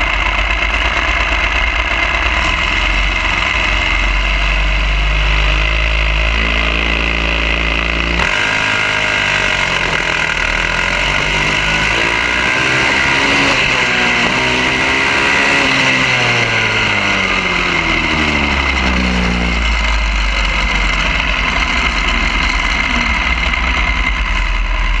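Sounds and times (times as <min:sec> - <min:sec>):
low engine drone: 0:00.0 - 0:25.0
small engine revving: 0:00.0 - 0:25.0.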